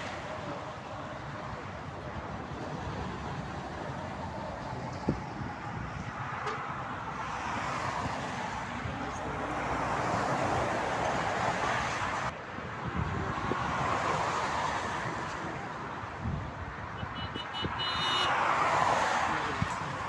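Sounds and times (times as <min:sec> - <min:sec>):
motorway traffic passing: 0:00.0 - 0:20.0.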